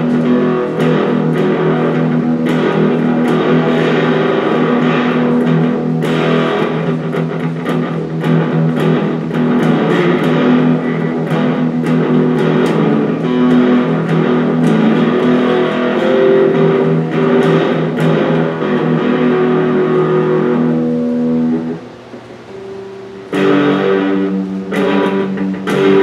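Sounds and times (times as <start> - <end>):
electric guitar notes and chords: 0.0 - 26.0.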